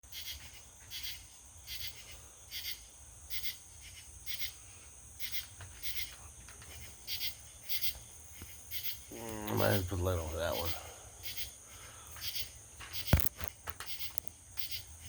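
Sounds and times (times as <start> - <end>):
insect chirps: 0.0 - 15.0
insects trilling: 0.0 - 15.0.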